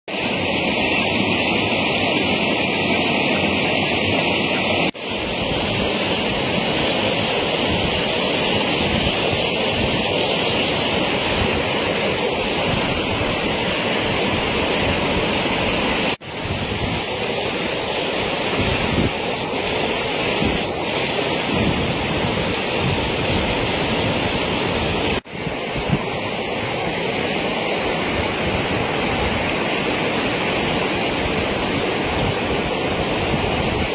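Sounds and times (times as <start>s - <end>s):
floodwater rushing: 0.1s - 33.9s
wind noise on microphone: 4.4s - 27.0s, 27.7s - 33.9s.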